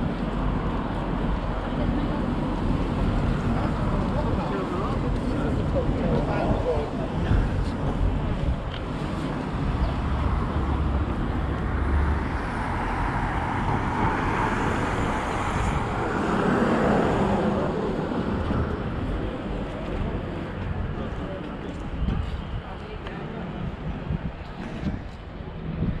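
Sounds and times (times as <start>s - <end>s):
steady road traffic: 0.0s - 26.0s.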